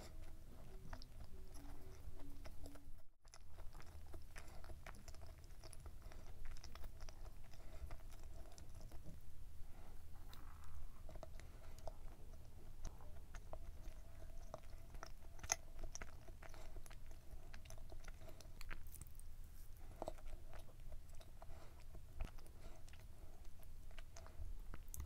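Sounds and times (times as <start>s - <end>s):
person chewing: 0.0s - 9.2s, 9.8s - 25.0s.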